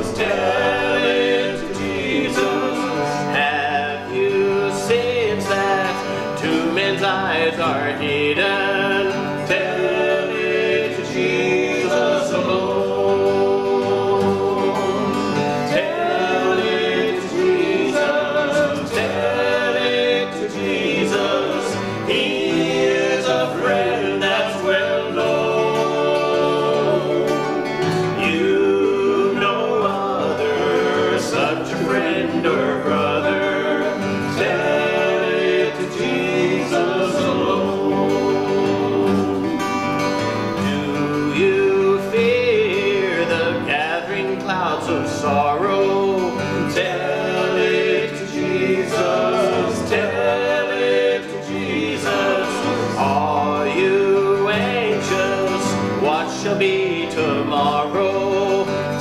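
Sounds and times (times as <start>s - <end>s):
acoustic guitars: 0.0s - 59.0s
man singing a hymn: 0.0s - 59.0s.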